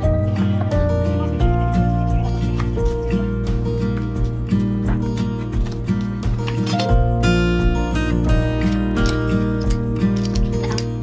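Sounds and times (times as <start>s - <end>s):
background instrumental music: 0.0s - 11.0s.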